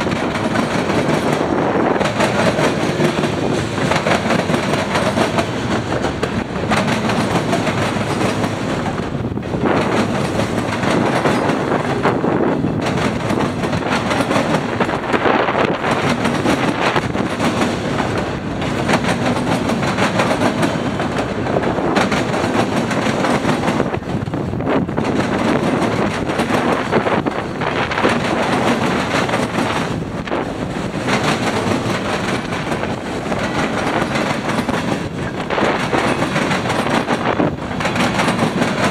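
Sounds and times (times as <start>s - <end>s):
freight train cars rumbling: 0.0s - 38.9s
wheels clacking over rail joints: 0.0s - 38.9s.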